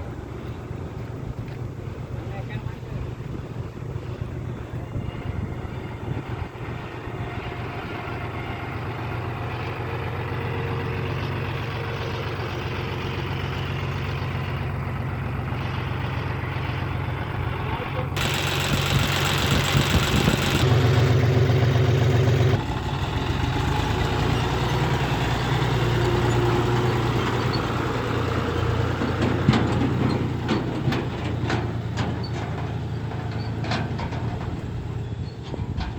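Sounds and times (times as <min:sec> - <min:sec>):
tractor diesel engine idling: 0:04.2 - 0:35.6.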